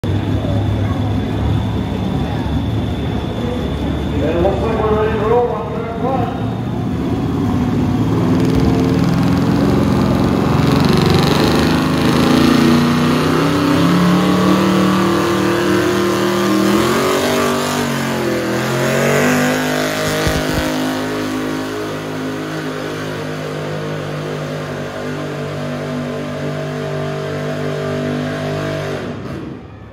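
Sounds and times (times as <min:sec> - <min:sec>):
truck engine at full throttle: 0:00.0 - 0:29.9.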